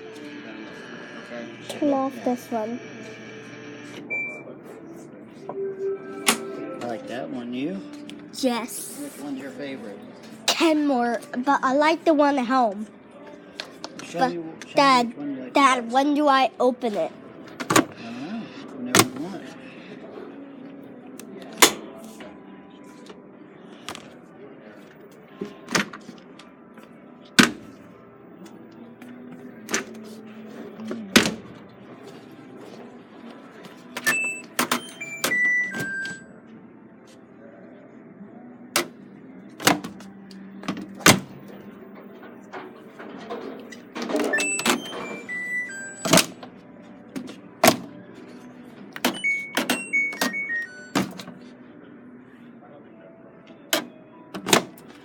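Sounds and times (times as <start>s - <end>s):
faint background music: 0.0s - 55.0s.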